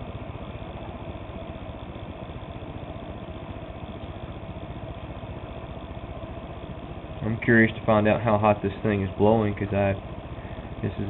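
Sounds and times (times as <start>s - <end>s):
blower fan humming: 0.0s - 11.0s.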